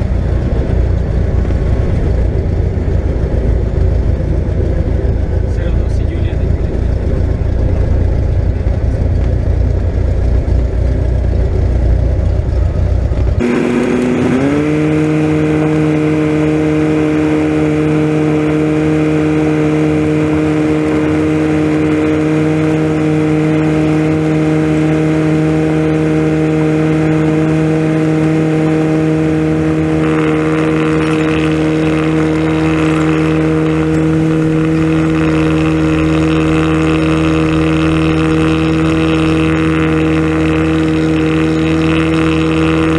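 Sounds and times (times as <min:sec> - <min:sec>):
propeller plane engine: 0:00.0 - 0:42.9.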